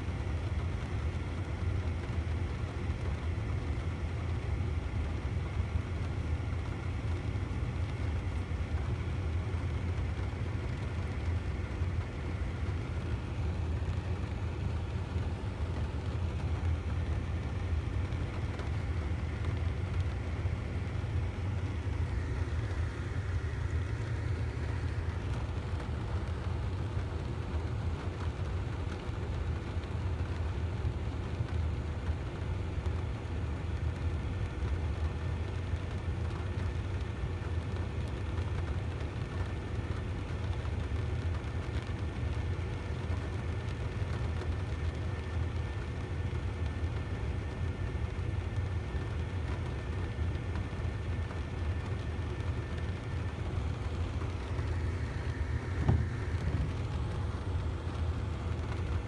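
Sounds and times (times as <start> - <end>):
low hum: 0.0 - 31.6, 37.7 - 59.0
moderate rain: 0.0 - 59.0.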